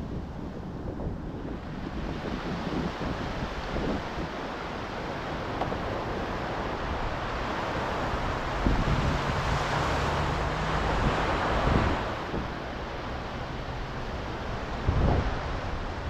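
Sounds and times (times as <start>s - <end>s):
ocean waves breaking: 0.0s - 16.0s
wind buffeting microphone: 0.0s - 16.0s.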